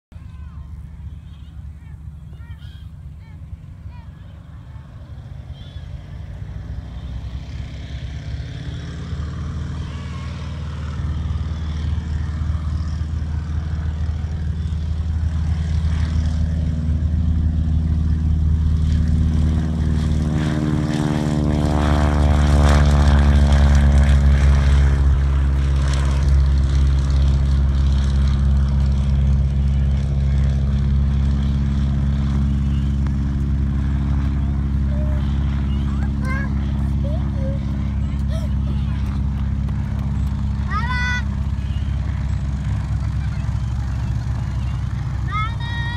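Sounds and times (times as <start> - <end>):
biplane engine and propeller: 0.1 - 45.9.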